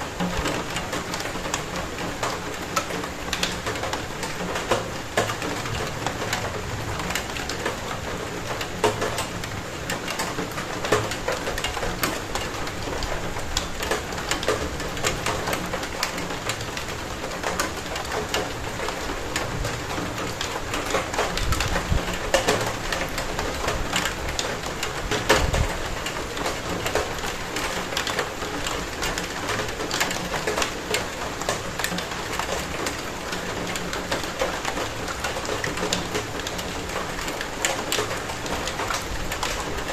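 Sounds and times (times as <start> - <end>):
steady rain with drop splashes: 0.0 - 39.9.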